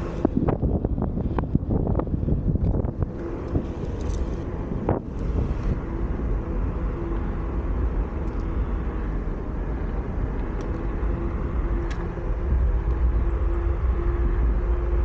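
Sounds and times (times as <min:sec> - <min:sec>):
hub motor whine: 0:00.0 - 0:15.0
wheel rolling on asphalt: 0:00.0 - 0:15.0
wind buffeting microphone: 0:00.0 - 0:15.0.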